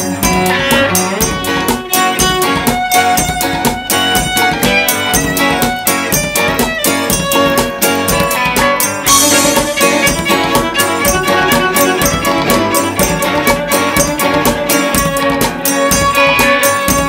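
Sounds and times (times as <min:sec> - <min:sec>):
bowed cello: 0:00.0 - 0:17.0
clarinet: 0:00.0 - 0:17.0
drum kit steady beat: 0:00.0 - 0:17.0
strummed guitars: 0:00.0 - 0:17.0.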